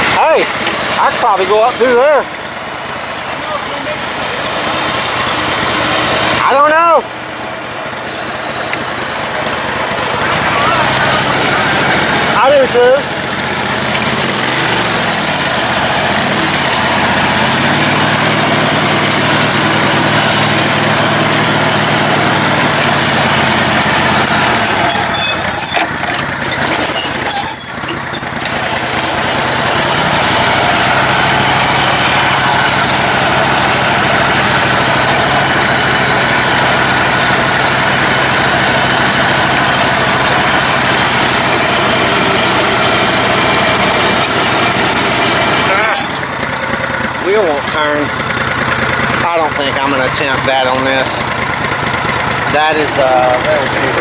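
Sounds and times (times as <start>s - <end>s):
riding lawn mower engine running: 0.0s - 54.0s.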